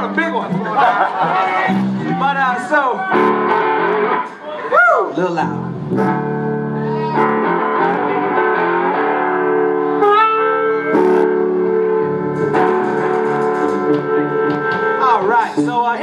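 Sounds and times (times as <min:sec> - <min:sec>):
loud electric guitar notes ringing: 0:00.0 - 0:04.4, 0:05.4 - 0:16.0.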